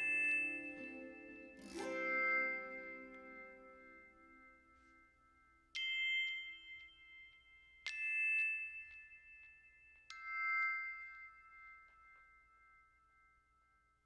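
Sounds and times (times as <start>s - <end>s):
bell-like chime notes ringing: 0.0s - 14.0s.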